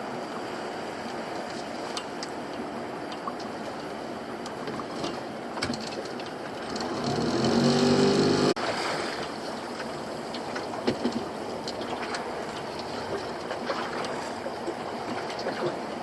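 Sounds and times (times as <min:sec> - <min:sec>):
boat engine running: 0:00.0 - 0:16.0
water noise: 0:00.0 - 0:16.0.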